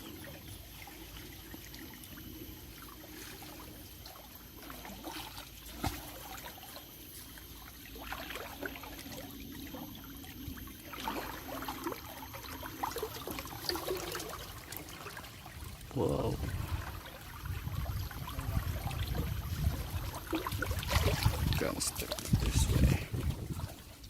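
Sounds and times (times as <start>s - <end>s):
river water trickling: 0.0s - 24.0s.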